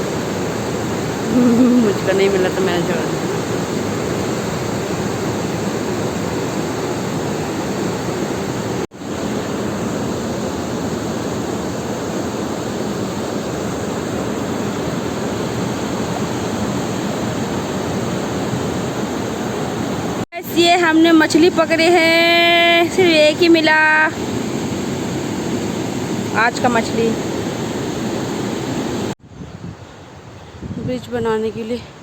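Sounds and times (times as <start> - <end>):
fast-flowing river water: 0.1 - 29.1.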